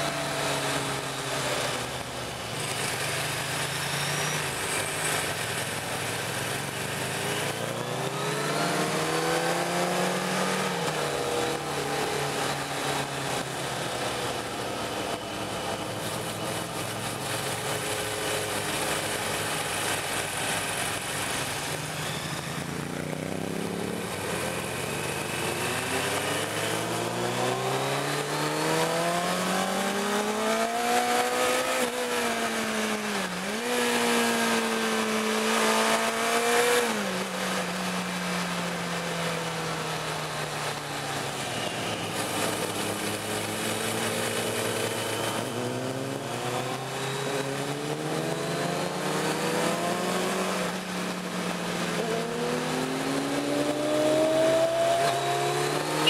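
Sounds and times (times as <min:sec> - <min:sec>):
motorcycle engine revving: 0:00.0 - 0:38.6, 0:41.2 - 0:56.0.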